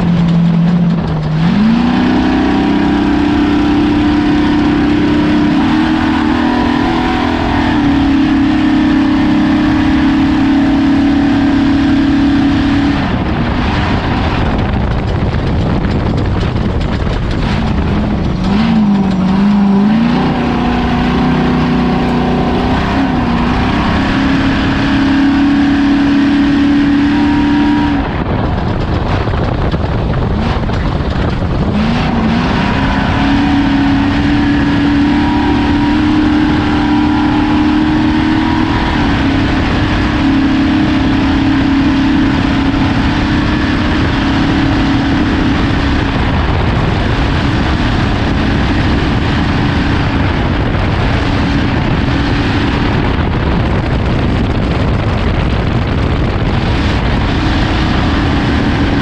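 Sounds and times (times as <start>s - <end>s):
constant wash of noise: 0.0s - 59.0s
race vehicle engine revving hard: 0.0s - 59.0s.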